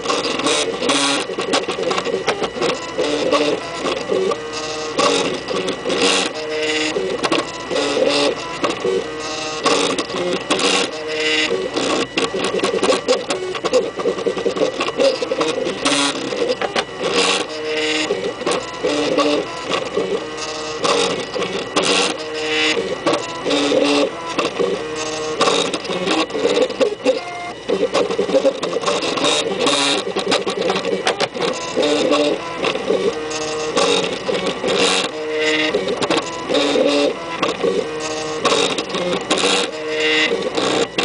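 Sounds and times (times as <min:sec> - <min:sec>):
stepper motors whining: 0:00.0 - 0:41.0.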